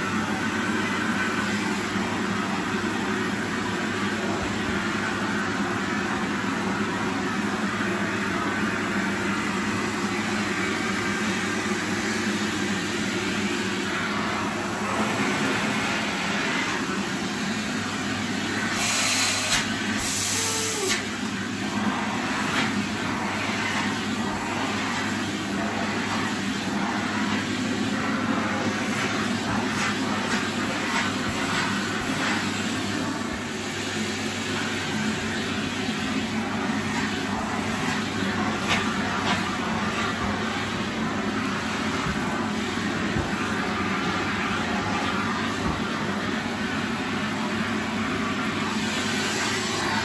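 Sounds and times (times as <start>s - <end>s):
vacuum airflow hissing: 0.0s - 50.0s
vacuum cleaner running: 0.0s - 50.0s.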